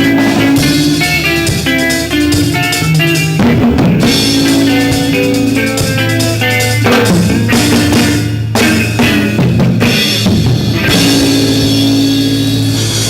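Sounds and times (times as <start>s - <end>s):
guitar chord ringing out: 0.0s - 10.1s, 10.7s - 13.0s
drum hits and fills: 0.0s - 13.0s
live rock band: 0.0s - 13.0s.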